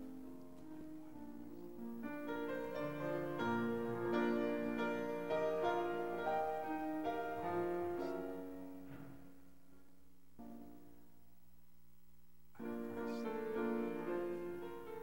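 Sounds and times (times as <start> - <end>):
slow piano-like keyboard music: 0.0 - 11.3, 12.5 - 15.0.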